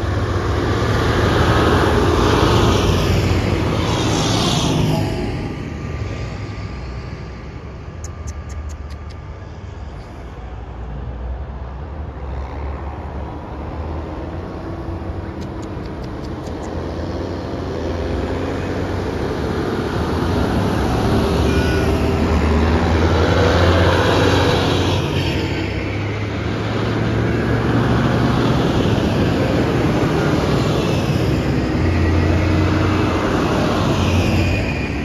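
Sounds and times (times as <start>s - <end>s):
cars passing on wet road: 0.0s - 35.0s.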